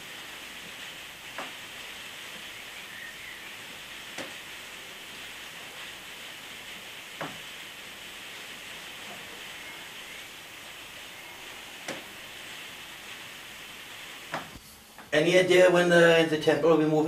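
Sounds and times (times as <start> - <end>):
room noise hiss: 0.0 - 17.0.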